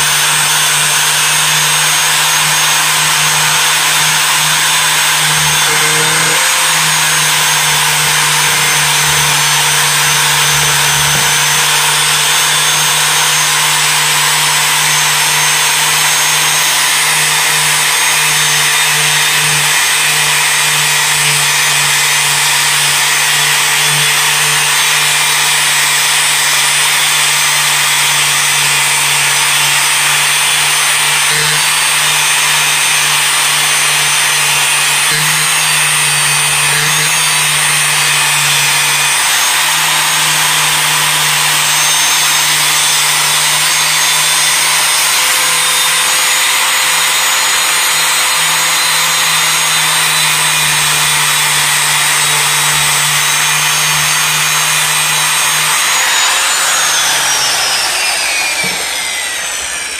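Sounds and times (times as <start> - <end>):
angle grinder grinding metal: 0.0 - 59.9.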